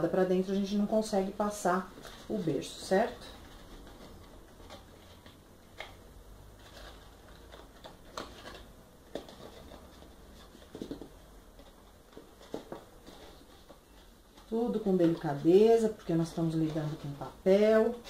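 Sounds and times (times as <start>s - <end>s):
faint paper rustling: 0.5s - 18.0s.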